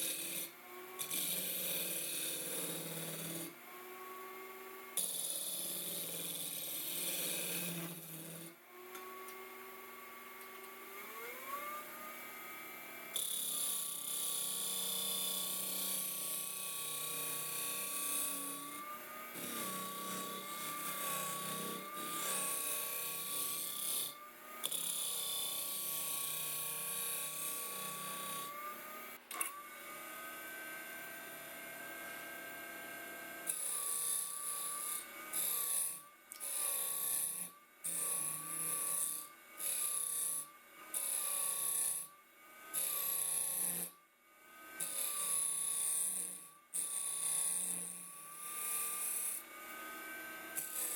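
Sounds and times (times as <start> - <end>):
tool scraping: 0.0 - 4.1, 5.0 - 9.7, 13.2 - 50.9
power tool motor whine: 0.0 - 42.0, 42.6 - 50.9.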